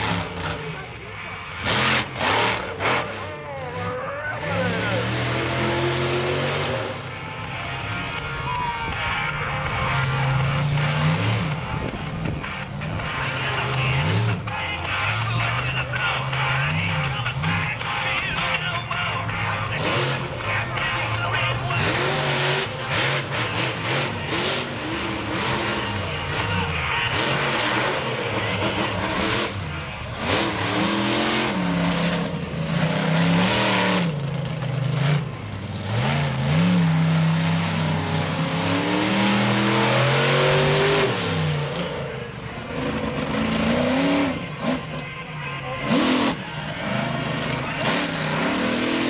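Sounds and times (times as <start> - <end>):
truck engines revving hard: 0.0 - 49.0.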